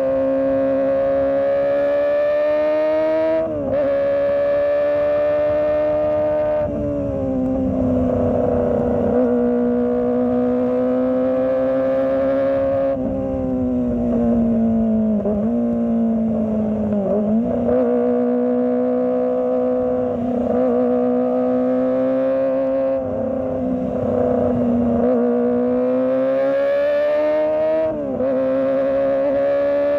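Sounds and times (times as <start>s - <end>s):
motorcycle engine at high revs: 0.0s - 29.9s.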